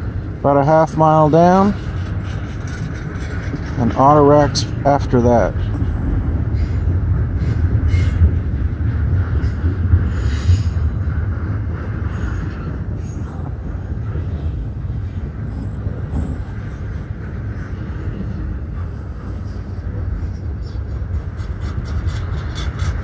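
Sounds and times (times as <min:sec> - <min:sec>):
train cars clanking: 0:00.0 - 0:23.0
train wheels rumbling on rail: 0:00.0 - 0:23.0.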